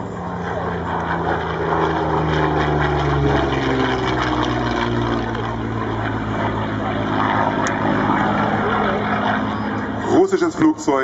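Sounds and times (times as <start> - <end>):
propeller plane droning past: 0.0 - 11.0.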